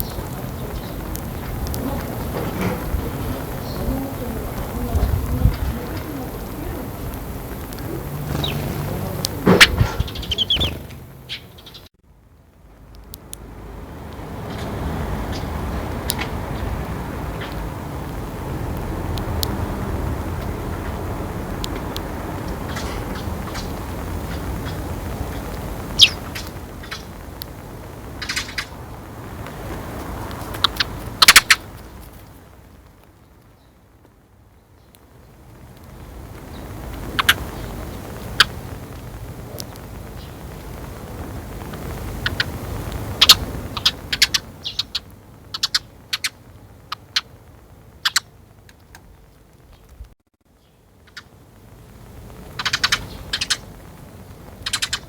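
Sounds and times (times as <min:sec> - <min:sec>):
sparrow chirping: 0:00.0 - 0:12.0, 0:14.2 - 0:32.2, 0:33.2 - 0:33.8, 0:36.3 - 0:47.4, 0:48.0 - 0:48.4, 0:50.6 - 0:51.4, 0:52.2 - 0:53.8, 0:54.4 - 0:55.0.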